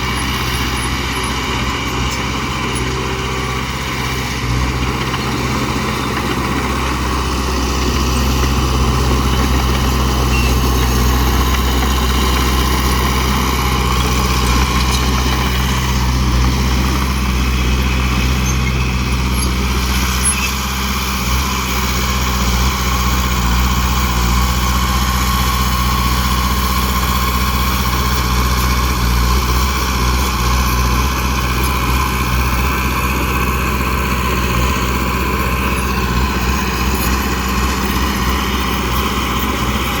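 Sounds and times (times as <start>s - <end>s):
truck engine deep rumble: 0.0s - 40.0s.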